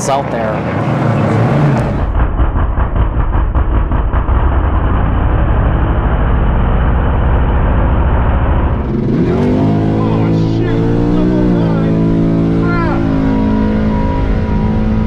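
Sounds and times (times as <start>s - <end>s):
drag-racing engine idling: 0.0s - 15.0s.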